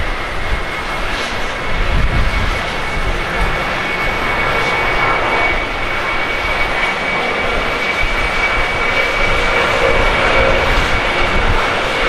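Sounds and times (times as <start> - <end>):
high jet whine: 0.0 - 12.0
jet engine roar: 0.0 - 12.0.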